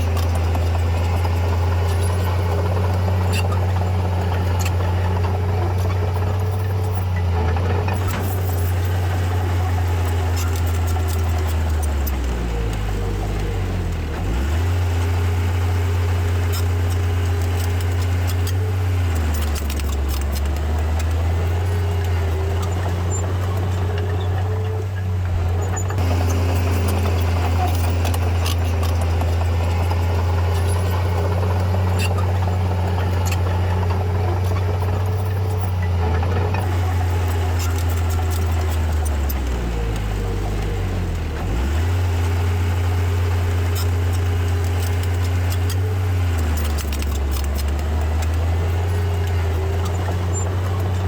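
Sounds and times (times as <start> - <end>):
clicks and rattles: 0.0 - 51.0
heavy diesel engine running: 0.0 - 51.0.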